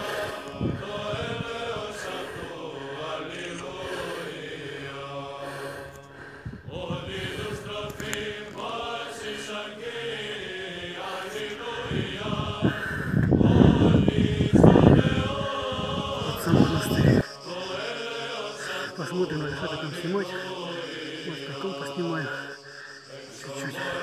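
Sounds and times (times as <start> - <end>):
person chanting long notes: 0.0 - 24.0.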